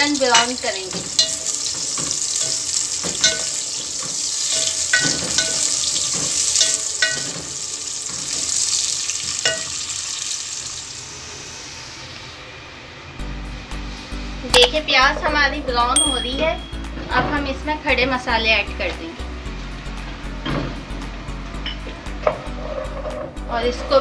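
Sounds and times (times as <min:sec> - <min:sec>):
onions sizzling in oil: 0:00.0 - 0:15.5, 0:16.7 - 0:24.0.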